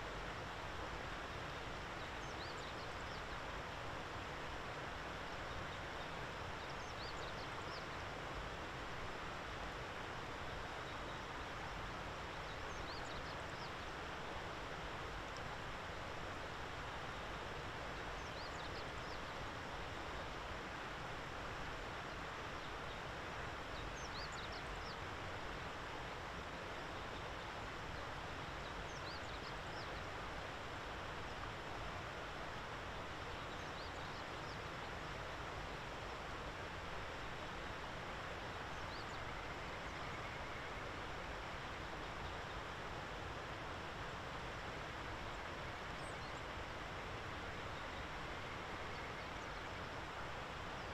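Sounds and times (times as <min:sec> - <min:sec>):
outdoor background hiss: 0:00.0 - 0:50.9.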